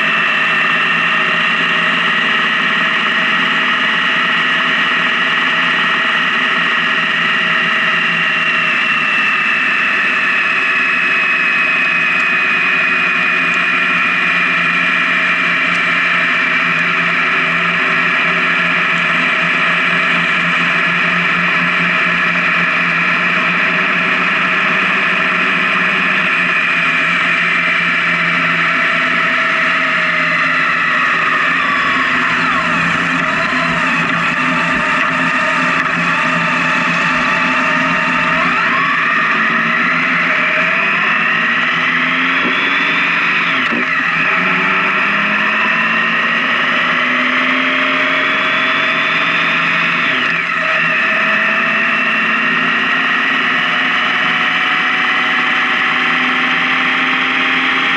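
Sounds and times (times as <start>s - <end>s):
motorcycle engine cruising: 0.0s - 57.9s.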